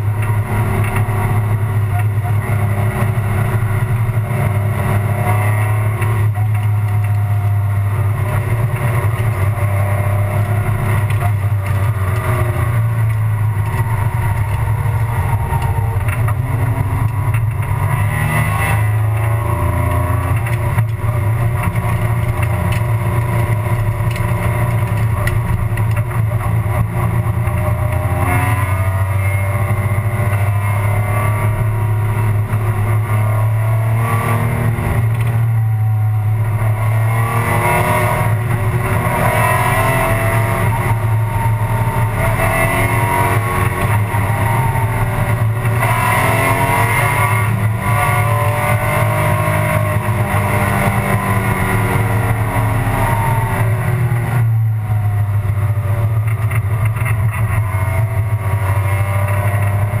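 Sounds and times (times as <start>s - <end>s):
race engine revving in cabin: 0.0s - 60.0s
steady low drone: 0.0s - 60.0s.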